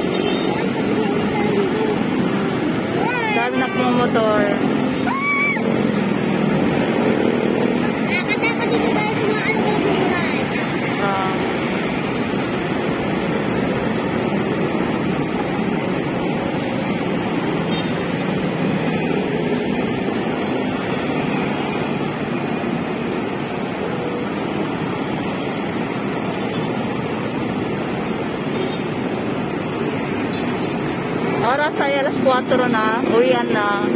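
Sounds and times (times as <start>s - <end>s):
heavy road traffic: 0.0s - 33.9s.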